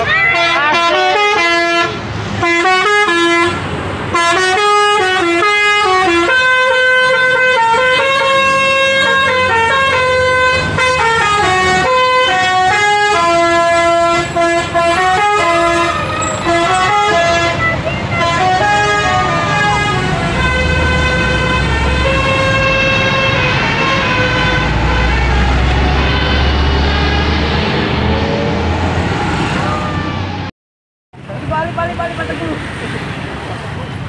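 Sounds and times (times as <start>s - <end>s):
multi-tone bus horn tune: 0.0s - 28.1s.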